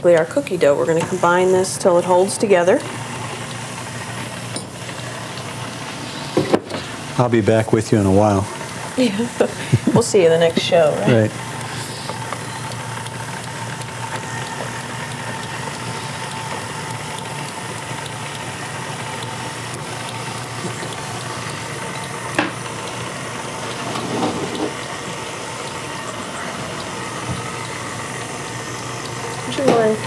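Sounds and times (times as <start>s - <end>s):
stand mixer beating dough: 0.0s - 30.0s.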